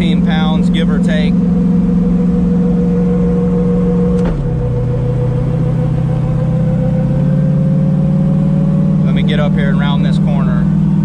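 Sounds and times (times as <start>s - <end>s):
car engine cruising from inside: 0.0s - 11.0s.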